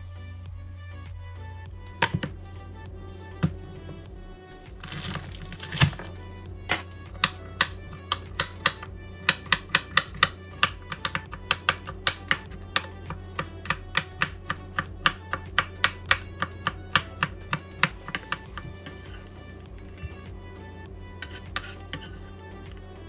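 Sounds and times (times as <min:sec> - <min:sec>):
background music: 0:00.0 - 0:23.0
knife chopping on cutting board: 0:02.0 - 0:02.4, 0:03.1 - 0:04.0, 0:04.8 - 0:22.9.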